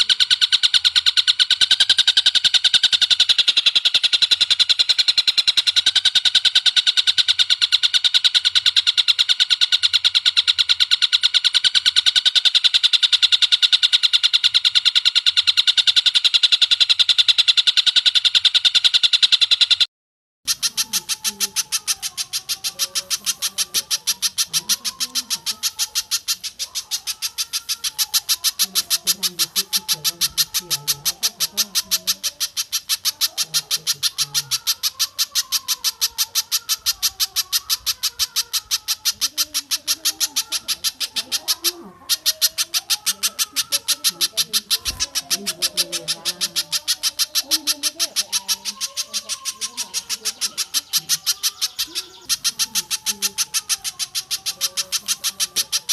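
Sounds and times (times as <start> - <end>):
high-pitched bird notes: 0.0 - 19.9, 20.5 - 55.9
lower wavering bird calls: 0.0 - 19.9, 20.5 - 55.9.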